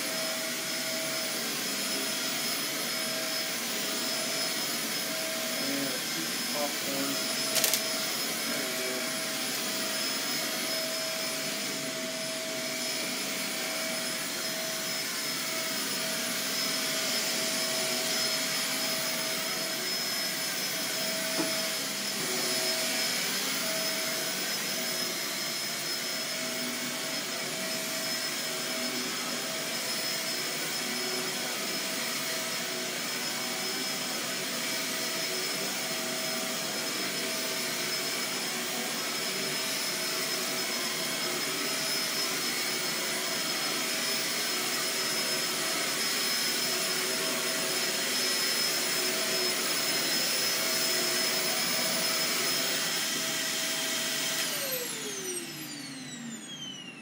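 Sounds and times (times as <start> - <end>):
vacuum cleaner running on carpet: 0.0 - 57.0.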